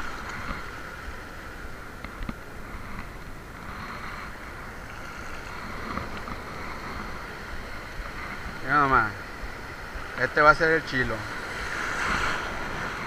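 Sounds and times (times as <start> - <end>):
surf on rocky shore: 0.0 - 13.0
wind rumbling on microphone: 0.0 - 13.0.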